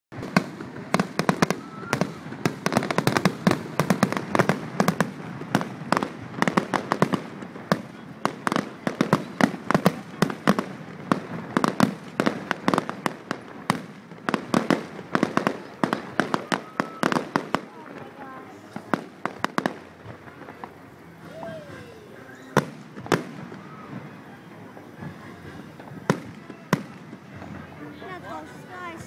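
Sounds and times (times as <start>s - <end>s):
fireworks bangs: 0.1s - 29.0s.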